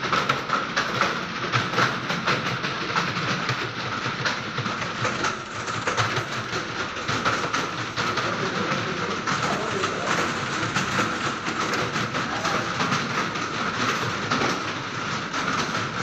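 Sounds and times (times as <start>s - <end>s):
many keyboards typing: 0.0s - 16.0s.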